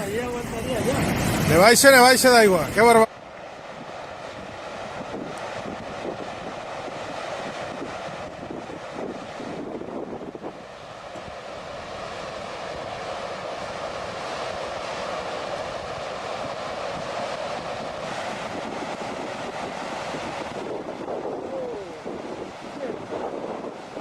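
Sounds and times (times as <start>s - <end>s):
fast water rushing: 0.0s - 24.0s
wind buffeting microphone: 0.0s - 24.0s.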